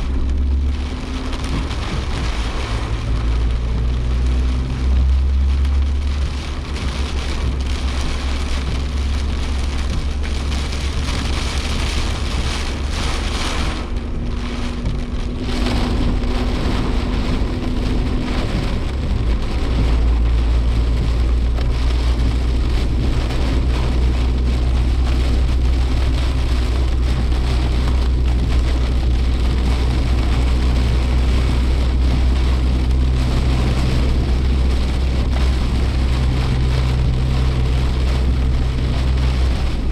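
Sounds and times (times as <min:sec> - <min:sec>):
car engine and road drone: 0:00.0 - 0:39.9
heavy rain and tyre spray hiss: 0:00.0 - 0:39.9.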